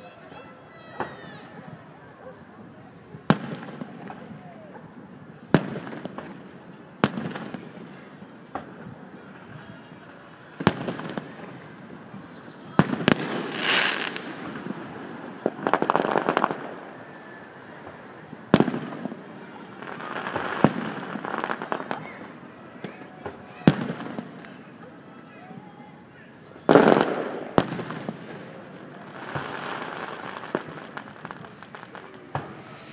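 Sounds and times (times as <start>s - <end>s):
dense firework crackling: 0.4s - 32.9s
firework shells booming: 3.2s - 24.8s, 26.6s - 32.9s.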